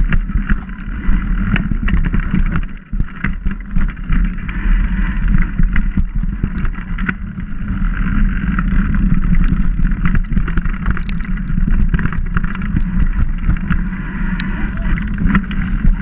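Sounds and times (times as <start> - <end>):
bike clicks and knocks: 0.0 - 16.0
bike tyre noise: 0.0 - 16.0
wind rumble on microphone: 0.0 - 16.0.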